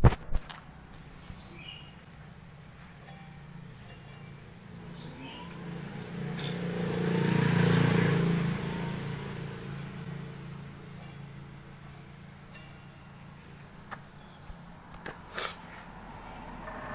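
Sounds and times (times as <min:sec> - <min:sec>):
motor vehicle passing by: 0:00.9 - 0:16.9.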